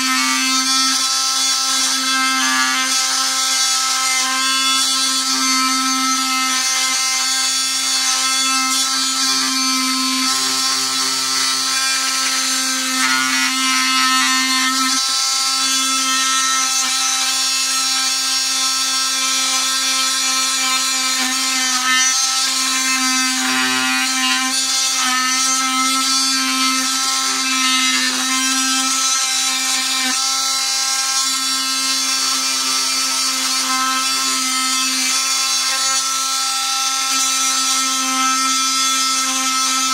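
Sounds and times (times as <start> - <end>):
oscillating multi-tool buzzing: 0.0 - 39.9.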